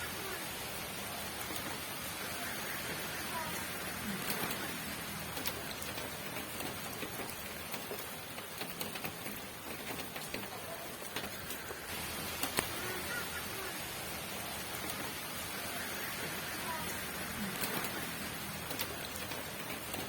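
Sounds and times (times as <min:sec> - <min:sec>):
raindrops ticking: 0:00.0 - 0:20.0
steady rain falling: 0:00.0 - 0:20.0.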